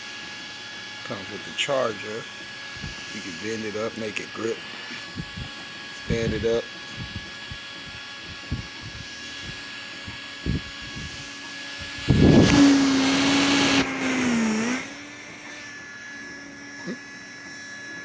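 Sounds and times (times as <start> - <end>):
small fan motor hum: 0.0 - 18.0.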